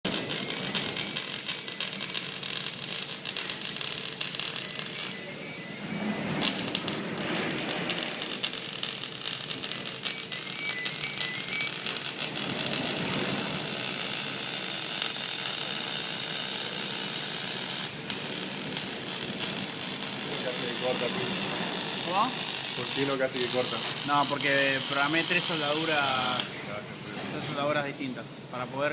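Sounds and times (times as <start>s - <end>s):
arc welding crackle and hiss: 0.0s - 5.4s, 6.2s - 26.6s.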